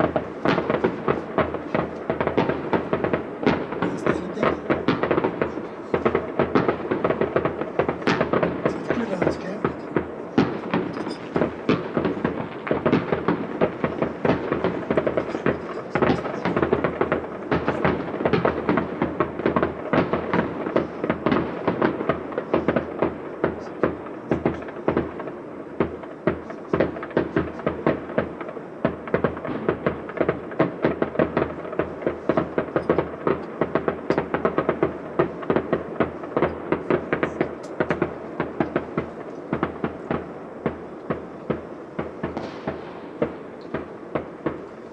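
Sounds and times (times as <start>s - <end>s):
fireworks bangs and crackling: 0.0s - 44.9s.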